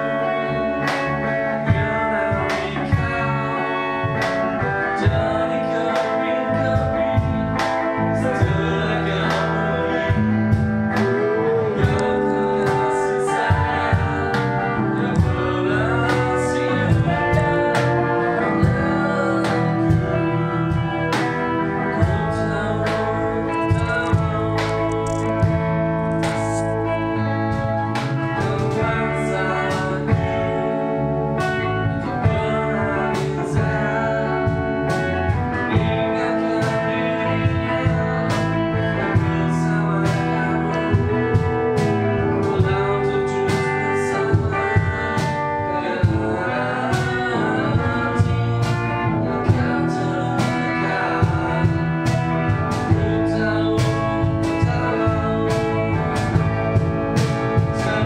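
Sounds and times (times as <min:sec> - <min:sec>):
guitar music over steady beat: 0:00.0 - 0:58.0
person singing: 0:00.0 - 0:58.0.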